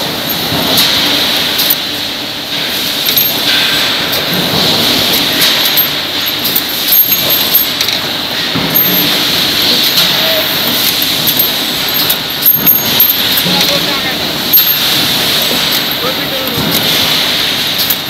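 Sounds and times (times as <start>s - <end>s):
industrial machine din: 0.0s - 18.0s.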